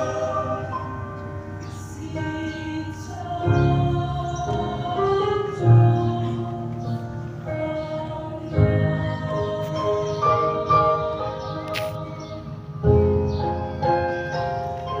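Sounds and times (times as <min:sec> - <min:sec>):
mixed choir singing chords: 0:00.0 - 0:14.4.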